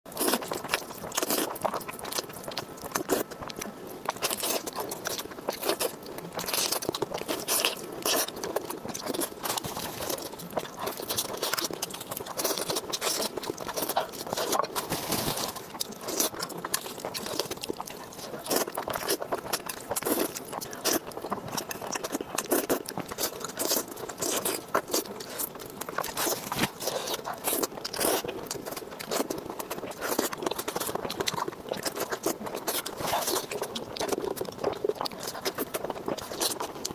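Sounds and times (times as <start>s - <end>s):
person chewing crunchy food: 0.1s - 36.9s.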